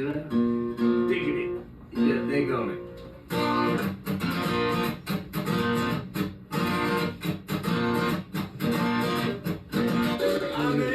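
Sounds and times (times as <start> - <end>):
guitar strumming chords: 0.0 - 10.9.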